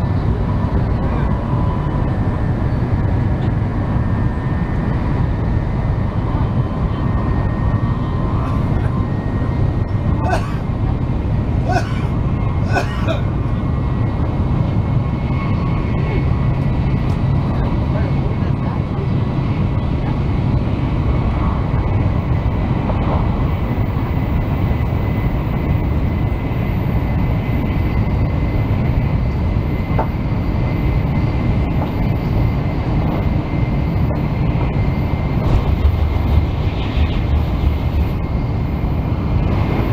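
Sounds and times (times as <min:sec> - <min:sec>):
train running noise from inside: 0:00.0 - 0:39.9.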